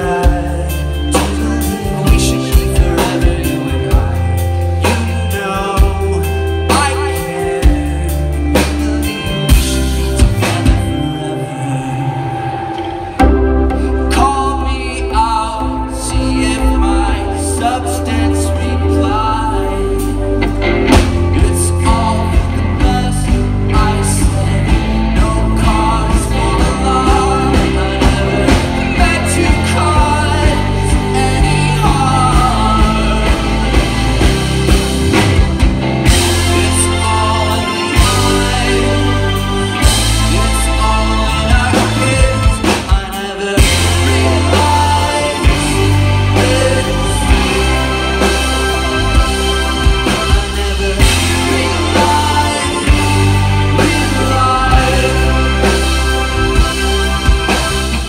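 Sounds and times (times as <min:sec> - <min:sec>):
drums with steady beat: 0:00.0 - 0:11.3, 0:20.0 - 0:58.0
bass guitar: 0:00.0 - 0:58.0
electric guitars: 0:00.0 - 0:58.0
keyboards: 0:00.0 - 0:58.0
live rock band playing: 0:00.0 - 0:58.0
male lead vocal singing: 0:00.0 - 0:58.0.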